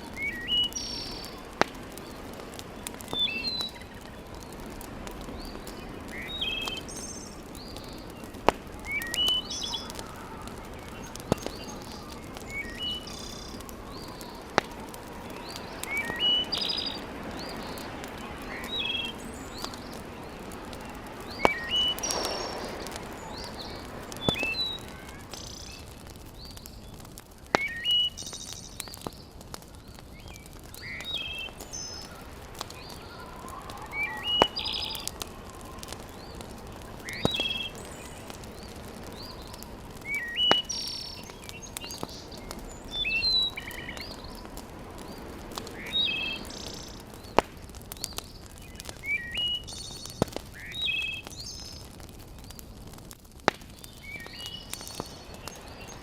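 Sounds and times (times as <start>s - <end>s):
birds chirping: 0.0s - 56.0s
wood fire crackling: 0.0s - 56.0s.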